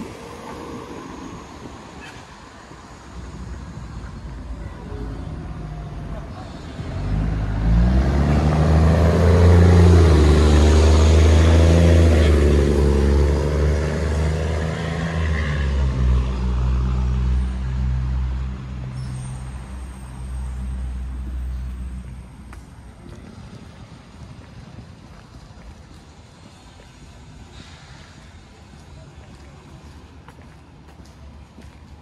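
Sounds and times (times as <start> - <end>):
heavy vehicle engine humming: 0.0 - 32.0.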